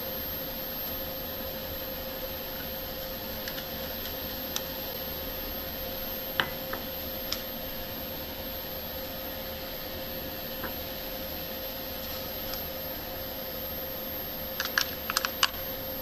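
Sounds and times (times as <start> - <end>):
faint constant hum: 0.0 - 16.0
steady hiss: 0.0 - 16.0.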